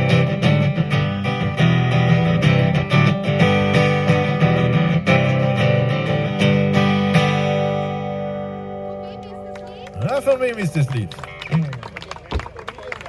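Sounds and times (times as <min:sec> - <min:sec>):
acoustic guitar strumming: 0:00.0 - 0:11.8.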